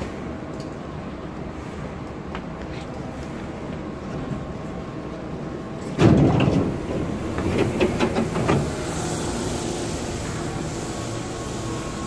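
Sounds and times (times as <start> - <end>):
train car hum: 0.0 - 12.0.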